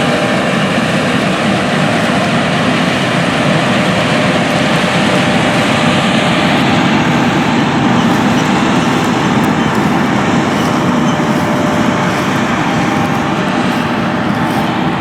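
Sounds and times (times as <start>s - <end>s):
diesel engine drone: 0.0s - 15.0s
working machinery noise: 0.0s - 15.0s.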